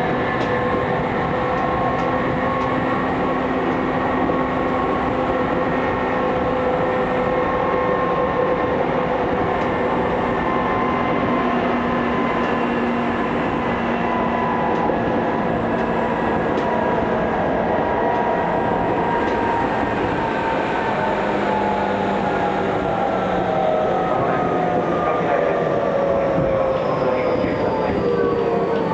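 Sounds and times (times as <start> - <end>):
traction motor whine: 0.0 - 28.9
train wheels rumbling on rail: 0.0 - 28.9.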